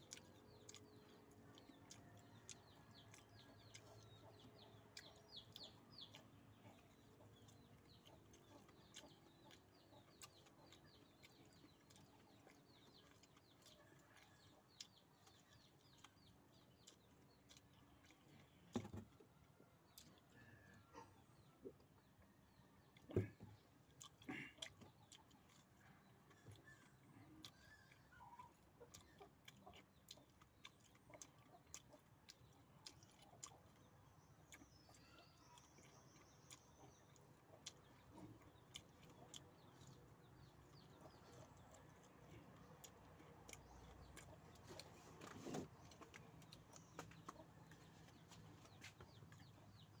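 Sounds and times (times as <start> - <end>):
faint clicks of food being eaten: 0.0 - 50.0.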